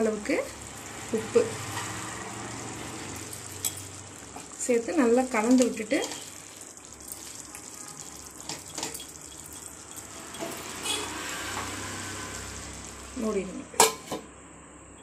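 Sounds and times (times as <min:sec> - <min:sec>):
curry bubbling and sizzling: 0:00.0 - 0:13.5.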